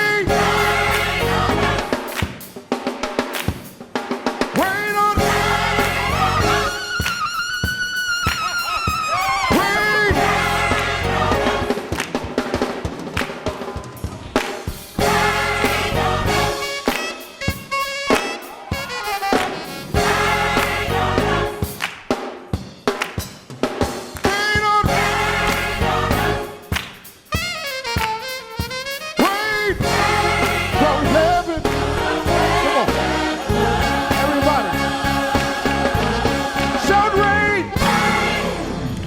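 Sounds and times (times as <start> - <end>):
gospel choir singing: 0.0 - 13.7, 14.4 - 22.2, 24.3 - 26.9, 29.3 - 39.0
band accompaniment: 0.0 - 39.0.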